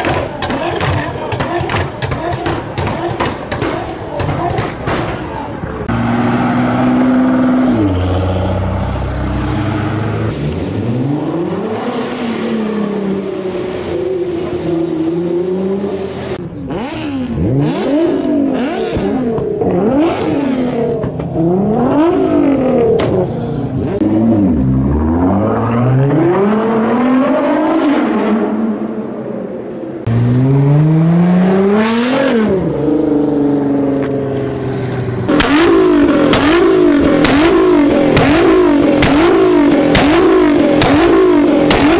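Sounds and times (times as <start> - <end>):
car engine revving: 5.8 - 29.2, 29.9 - 41.9.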